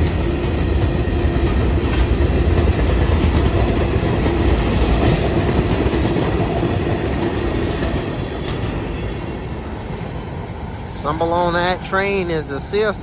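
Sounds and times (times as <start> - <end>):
freight train rolling past: 0.0 - 13.0
wheels clickety-clack on rail: 0.0 - 13.0.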